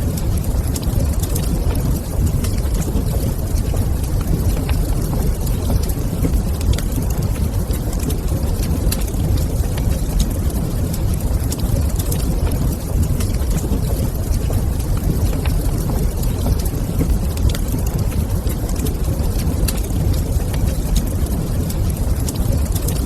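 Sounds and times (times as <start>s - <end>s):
deep rumble of fire: 0.0s - 23.0s
wood fire crackling: 0.0s - 23.0s.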